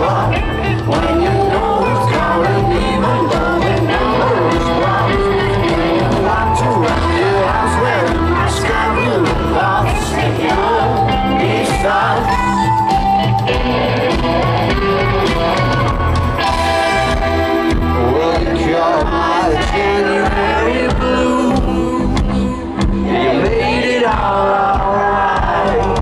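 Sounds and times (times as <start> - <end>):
man singing: 0.0 - 13.0, 16.9 - 26.0
rock band playing live: 0.0 - 26.0.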